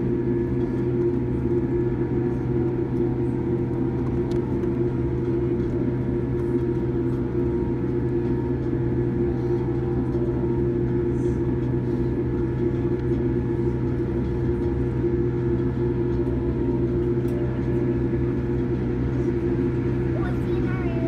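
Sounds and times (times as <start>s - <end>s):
airliner cabin hum: 0.0s - 21.0s.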